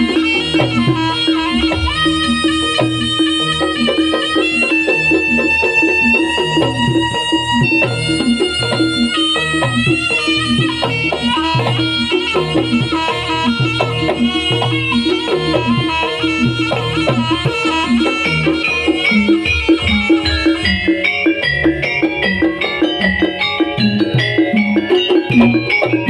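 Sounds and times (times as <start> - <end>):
drum strokes: 0.0 - 26.0
reedy wind instrument melody: 0.0 - 26.0.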